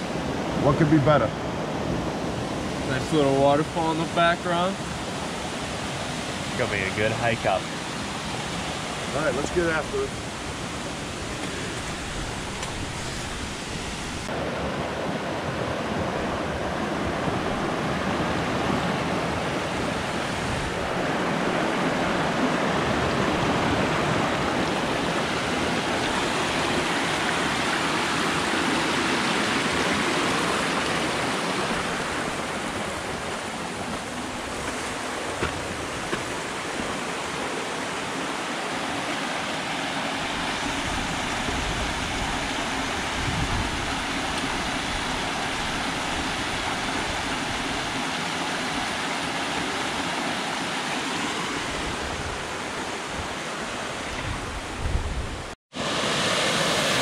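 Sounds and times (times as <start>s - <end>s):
water rushing over waterfall: 0.0s - 54.8s, 55.4s - 57.0s.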